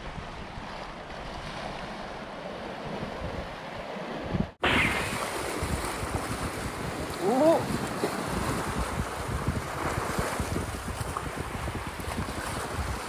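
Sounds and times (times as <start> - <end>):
sea waves washing over rocks: 0.0 - 13.0
wind buffeting microphone: 0.0 - 13.0.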